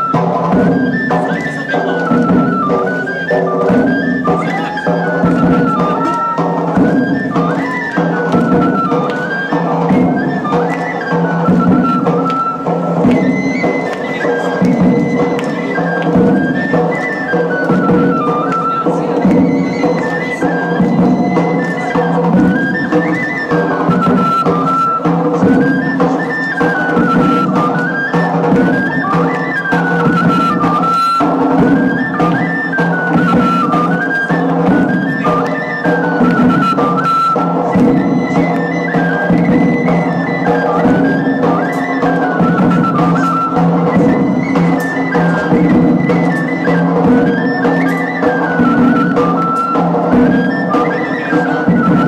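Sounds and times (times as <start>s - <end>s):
wind instrument melody: 0.0s - 52.0s.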